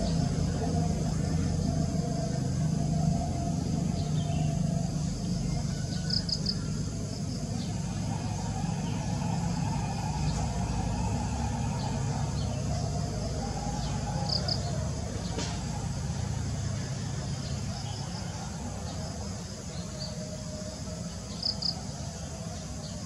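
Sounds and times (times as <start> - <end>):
steady low rumble: 0.0 - 22.9
bird chirping: 0.0 - 23.0
insect drone: 0.0 - 23.0.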